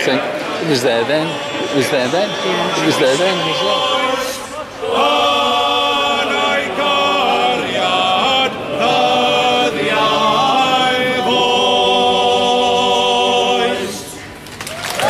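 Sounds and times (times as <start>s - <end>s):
male choir singing in harmony: 0.0s - 14.4s.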